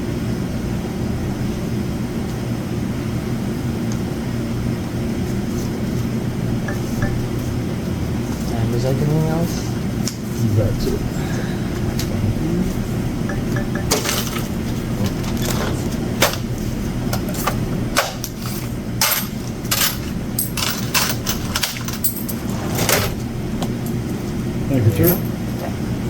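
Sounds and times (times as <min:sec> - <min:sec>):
low hum of store equipment: 0:00.0 - 0:26.0.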